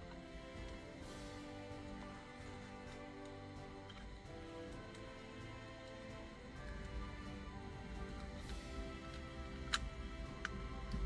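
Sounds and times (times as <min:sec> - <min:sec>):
background music with sustained tones: 0:00.0 - 0:11.0.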